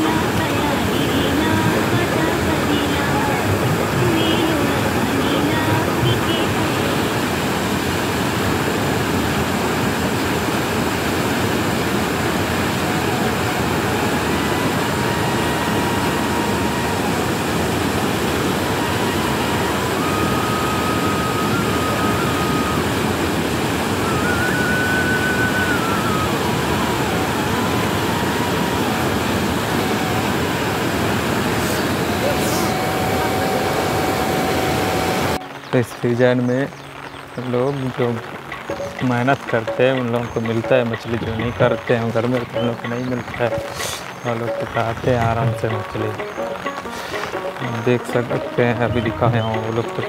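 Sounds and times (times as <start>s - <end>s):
river rushing in flood: 0.0s - 50.0s.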